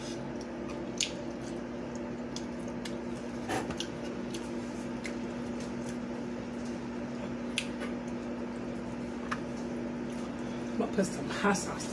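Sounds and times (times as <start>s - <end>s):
low electrical hum: 0.0s - 11.9s
chewing and mouth smacks: 0.2s - 10.4s.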